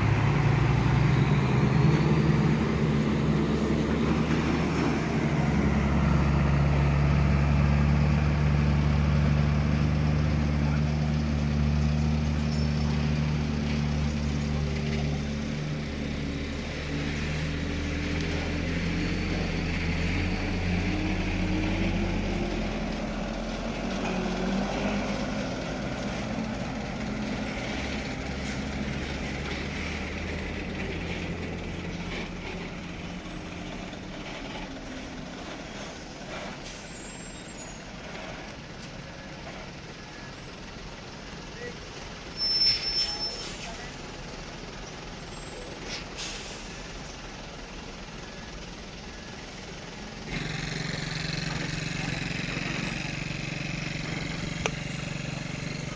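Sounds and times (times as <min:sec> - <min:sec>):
heavy truck engine pulling away: 0:00.0 - 0:55.9.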